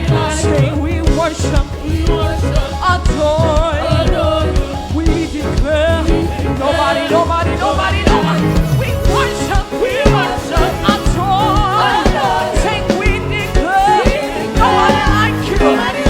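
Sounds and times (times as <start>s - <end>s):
drums and bass groove: 0.0s - 16.0s
voices singing: 0.0s - 16.0s.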